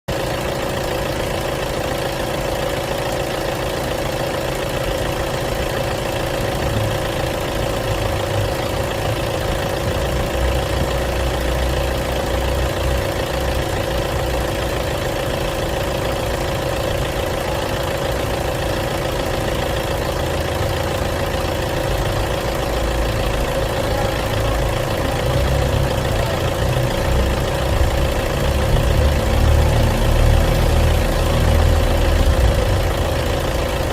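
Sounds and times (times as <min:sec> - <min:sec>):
diesel car engine idling: 0:00.1 - 0:33.9.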